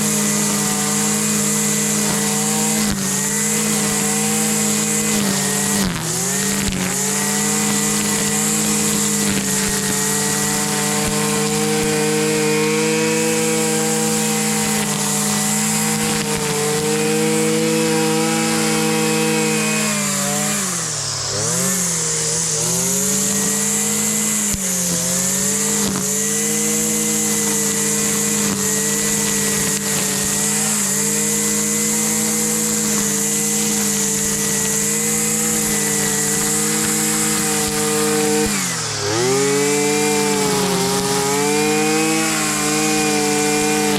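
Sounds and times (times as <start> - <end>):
string trimmer engine running: 0.0 - 43.9.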